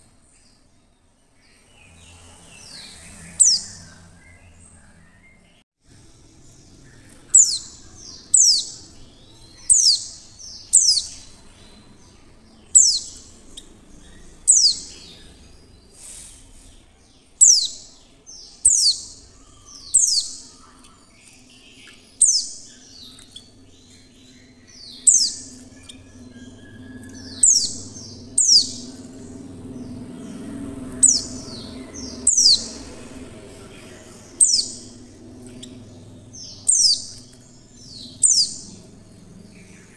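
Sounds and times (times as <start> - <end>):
bird high-pitched calls: 1.8 - 5.2, 6.7 - 16.5, 17.4 - 38.9.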